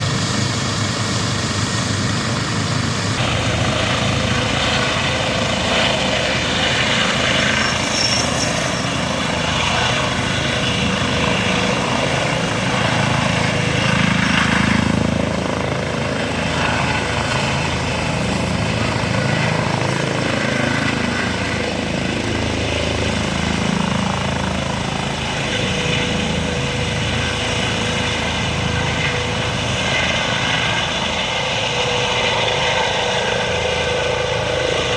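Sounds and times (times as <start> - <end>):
helicopter running: 0.0 - 34.9.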